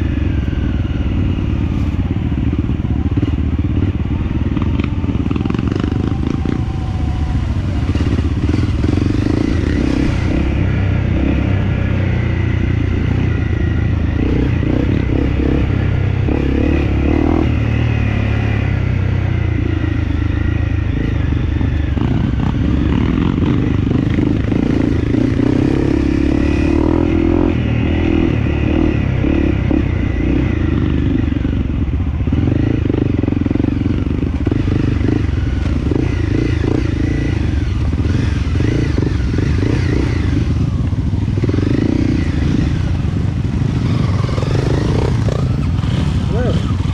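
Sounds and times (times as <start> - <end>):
dirt bike engine running: 0.0 - 46.9.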